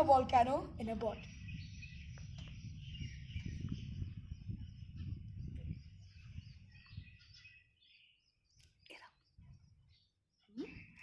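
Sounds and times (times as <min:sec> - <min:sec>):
wind buffeting microphone: 0:00.0 - 0:08.6, 0:09.3 - 0:10.1.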